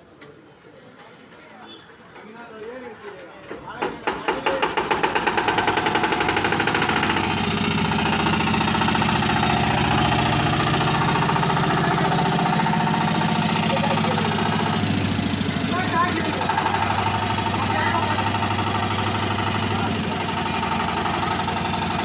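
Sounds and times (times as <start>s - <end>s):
diesel engine knocking steadily: 2.2s - 22.0s.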